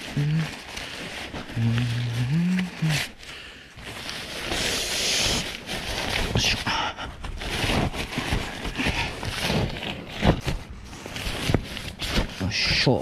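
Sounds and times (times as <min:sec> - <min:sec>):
nylon fabric rustling and crinkling: 0:00.0 - 0:13.0.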